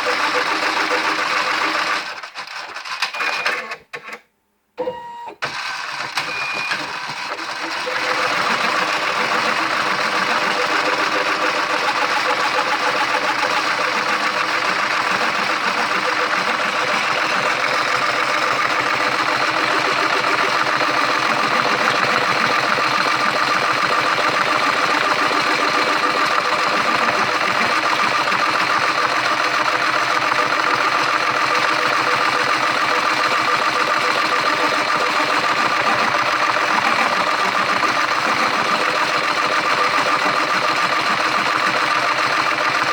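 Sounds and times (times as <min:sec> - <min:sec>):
machine clattering: 0:05.5 - 0:42.9.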